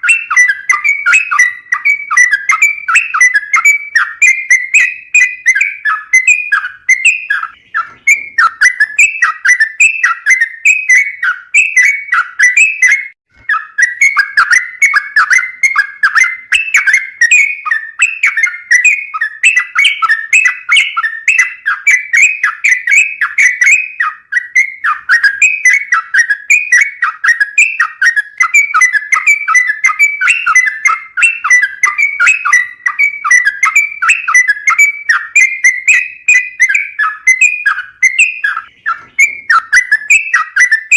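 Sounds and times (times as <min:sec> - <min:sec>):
bird singing bubbly chattering notes: 0:00.0 - 0:40.9.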